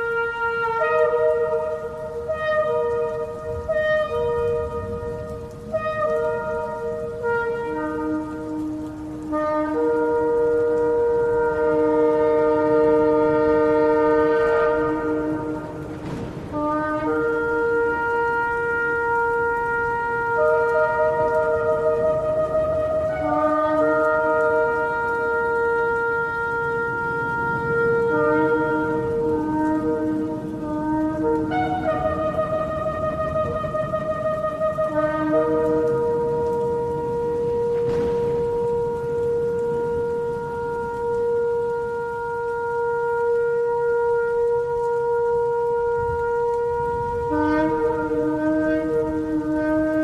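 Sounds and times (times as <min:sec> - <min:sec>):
shofar blasts: 0:00.0 - 0:50.0.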